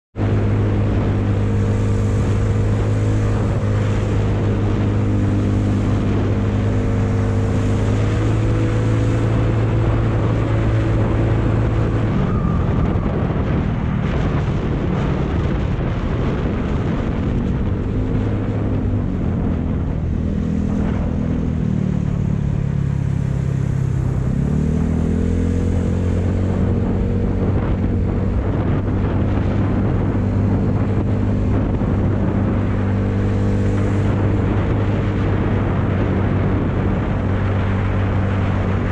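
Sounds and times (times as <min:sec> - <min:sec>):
wind rushing over microphone: 0:00.1 - 0:38.9.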